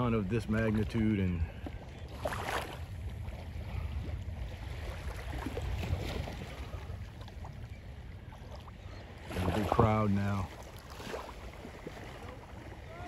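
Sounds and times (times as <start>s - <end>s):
faint wash of water: 0.0s - 13.0s
wind buffeting microphone: 0.0s - 13.0s.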